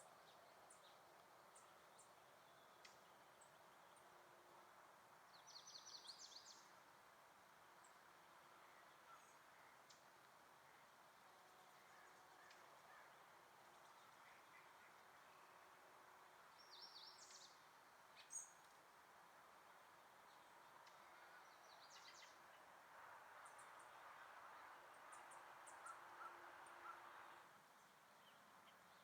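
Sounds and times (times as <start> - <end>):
soft background hiss: 0.0 - 29.0
songbirds chirping: 0.0 - 29.0.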